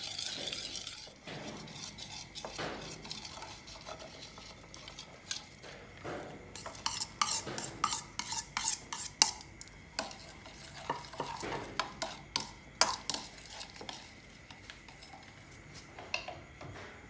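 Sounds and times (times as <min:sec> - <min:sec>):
spoon scraping ceramic bowl: 0:00.0 - 0:05.5, 0:06.5 - 0:15.9.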